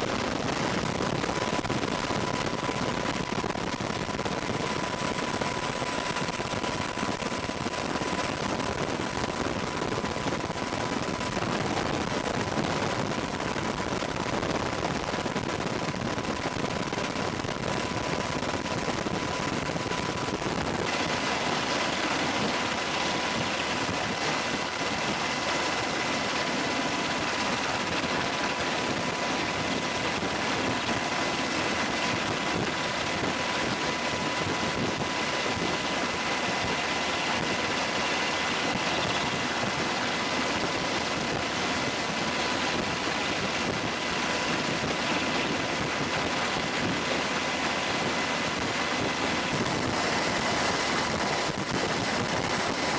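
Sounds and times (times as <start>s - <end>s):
helicopter engines and rotor: 0.0s - 52.9s
thin high whine: 0.0s - 52.9s.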